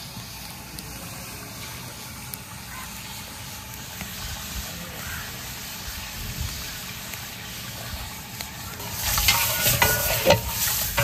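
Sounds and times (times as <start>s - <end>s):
curry simmering in metal pot: 0.0s - 11.0s.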